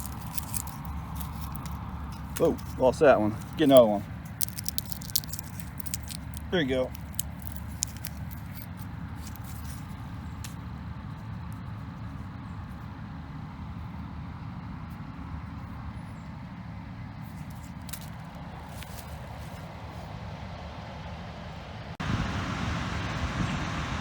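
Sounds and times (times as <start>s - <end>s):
machinery engine rumbling: 0.0s - 24.0s.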